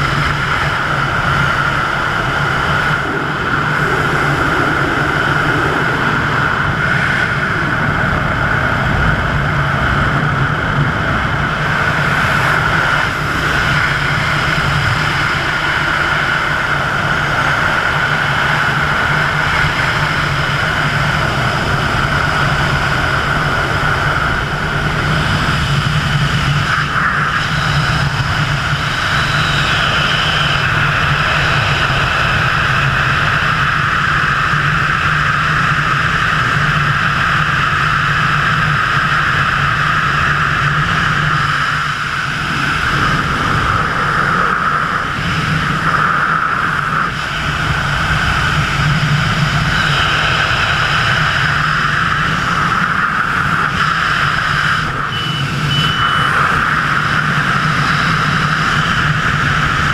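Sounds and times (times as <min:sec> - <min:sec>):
wind roar on microphone: 0:00.0 - 0:59.9.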